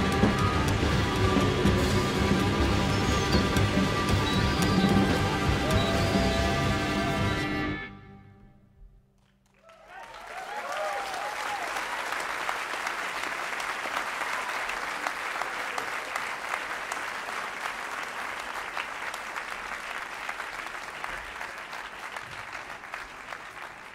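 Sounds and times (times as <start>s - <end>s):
audience applauding: 0.0s - 7.6s, 9.2s - 23.9s.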